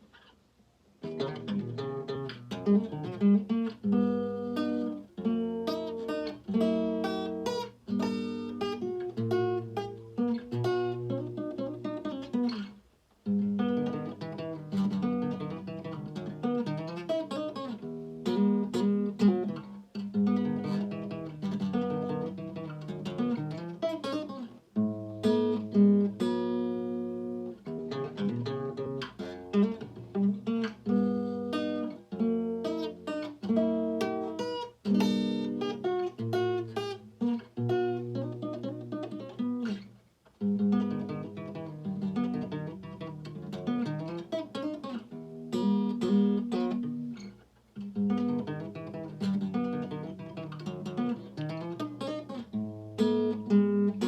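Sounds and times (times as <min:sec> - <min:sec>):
fingerstyle guitar: 0:00.0 - 0:54.0.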